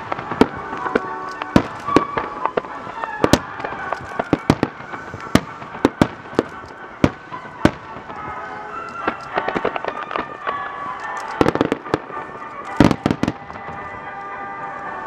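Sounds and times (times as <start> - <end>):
background noise: 0.0 - 15.0
fireworks popping and crackling: 0.0 - 15.0.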